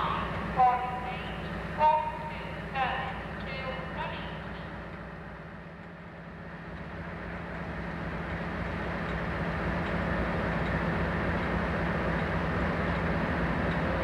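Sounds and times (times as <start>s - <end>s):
electric train approaching: 0.0s - 14.0s
steady low hum: 0.0s - 14.0s.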